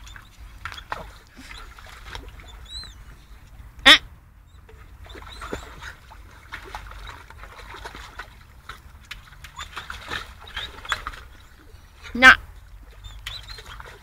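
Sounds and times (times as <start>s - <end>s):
dog splashing water: 0.0s - 3.7s, 4.6s - 14.0s.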